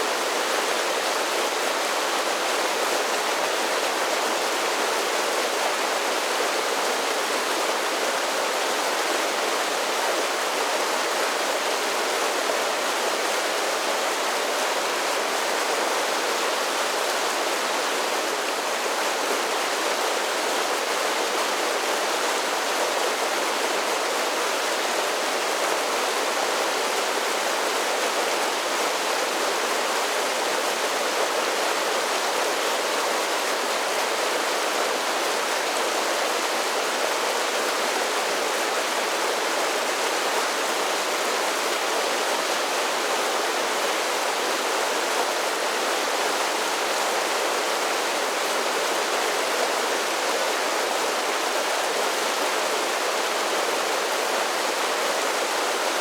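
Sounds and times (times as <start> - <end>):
creek water rushing over falls: 0.0 - 56.0.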